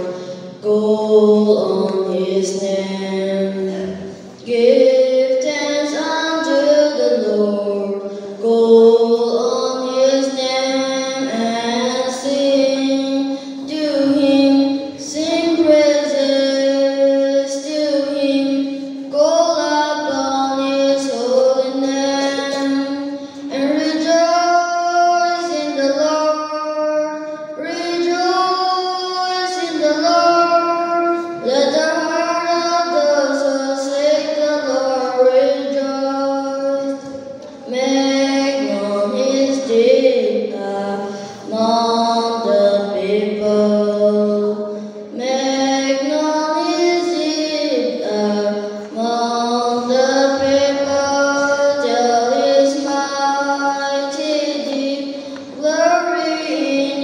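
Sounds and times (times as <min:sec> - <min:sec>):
boy singing: 0:00.0 - 0:57.0.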